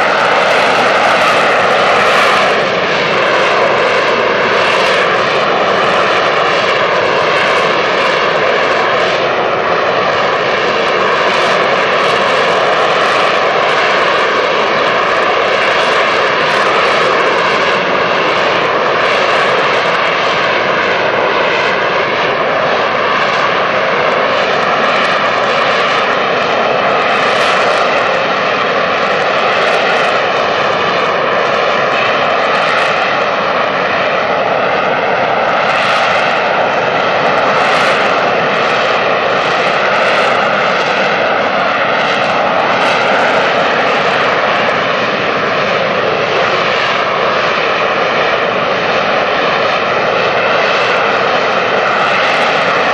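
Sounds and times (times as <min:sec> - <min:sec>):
jet engine roaring with whine: 0:00.0 - 0:52.9.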